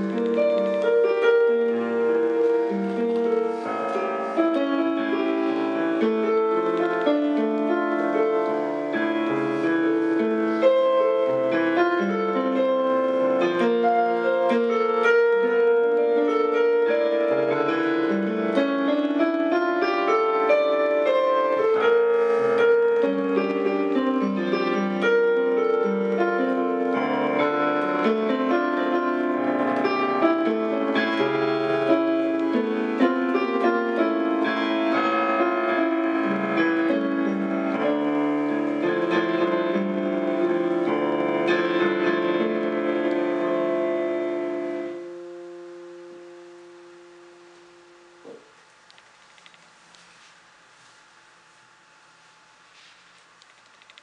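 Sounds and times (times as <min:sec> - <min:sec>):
solo piano music on keyboard: 0:00.0 - 0:48.6.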